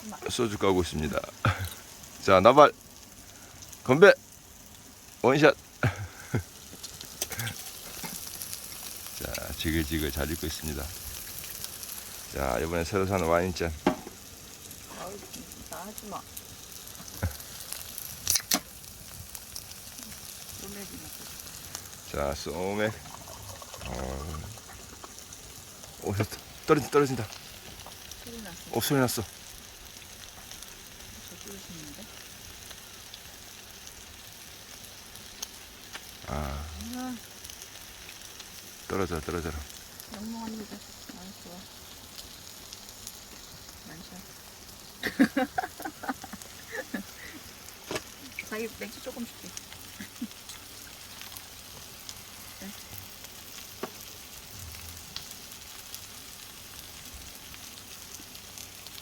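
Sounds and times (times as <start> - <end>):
pork belly sizzling with crackles: 0.0 - 59.0.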